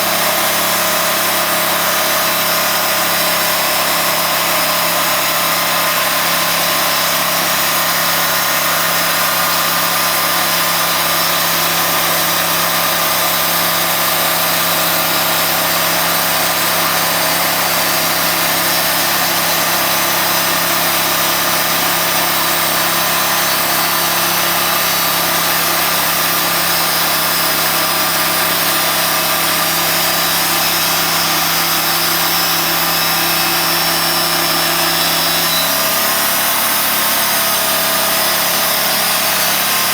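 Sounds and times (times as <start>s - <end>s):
sawmill sawing a log: 0.0s - 39.9s.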